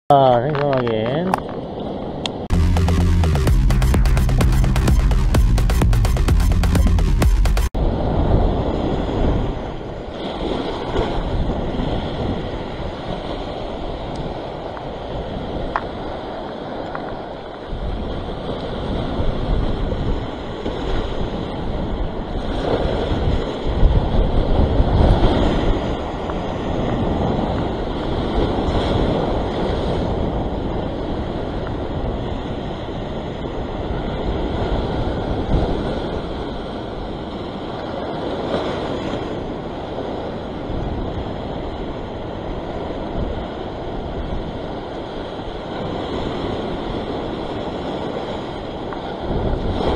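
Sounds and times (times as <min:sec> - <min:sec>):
surf breaking over rocks: 0:07.6 - 0:49.9
wind buffeting microphone: 0:07.8 - 0:49.9.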